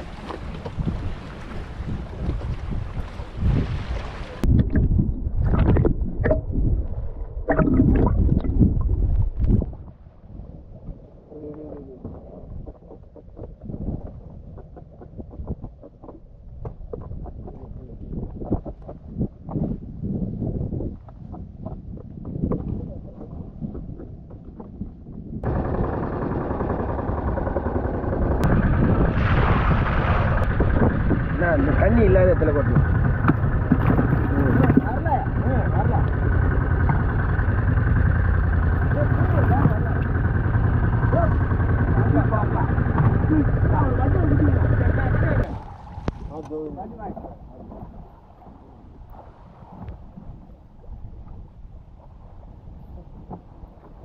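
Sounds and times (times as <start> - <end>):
boat engine running: 0.0 - 19.9, 21.0 - 49.0
wind and sea noise: 0.0 - 54.0
muffled underwater gurgling: 4.3 - 49.2.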